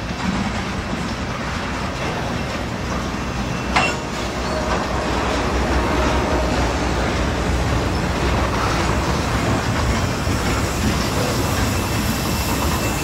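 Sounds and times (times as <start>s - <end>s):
train wheels rumbling on rails: 0.0s - 13.0s
high wheel squeal: 2.2s - 13.0s.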